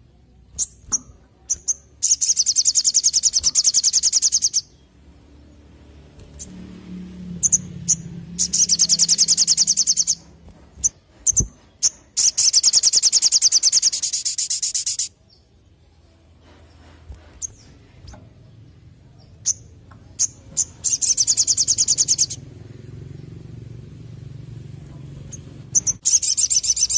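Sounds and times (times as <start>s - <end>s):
bird chirps and rattling trills: 0.4s - 26.9s.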